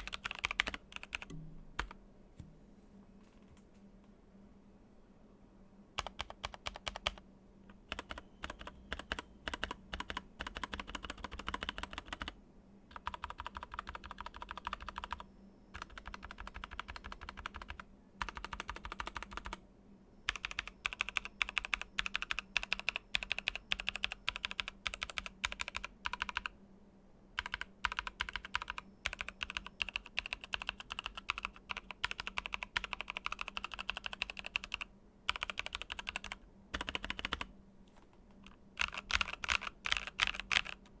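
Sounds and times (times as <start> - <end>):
mechanical keyboard typing: 0.0 - 2.0, 6.0 - 19.6, 20.3 - 26.5, 27.4 - 37.5, 38.4 - 40.9.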